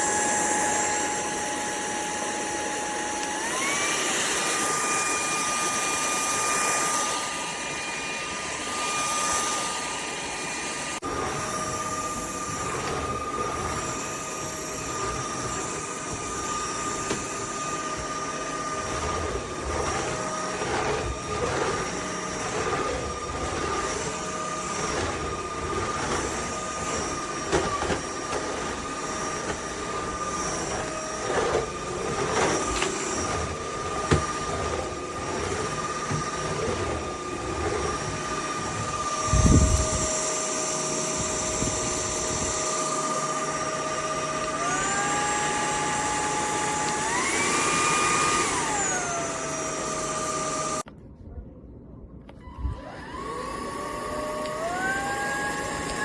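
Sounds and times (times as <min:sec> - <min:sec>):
vacuum cleaner motor whine: 0:00.0 - 0:50.9, 0:52.3 - 0:56.0.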